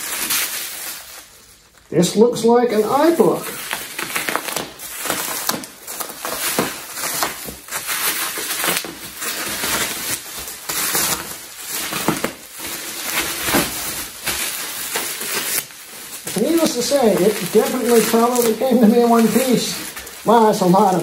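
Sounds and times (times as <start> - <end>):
bubble wrap rustling and crinkling: 0.0 - 21.0.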